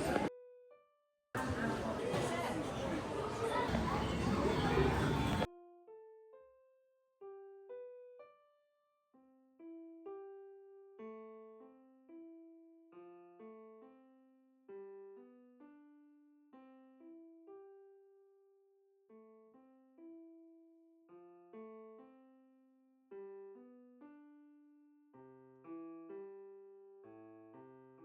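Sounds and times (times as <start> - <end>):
soft piano music: 0.0 - 1.5, 4.2 - 28.0.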